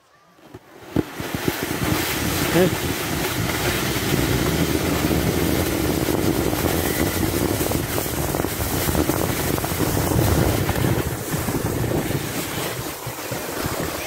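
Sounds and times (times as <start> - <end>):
sled sliding on snow: 0.0 - 14.0
wind buffeting microphone: 0.8 - 14.0.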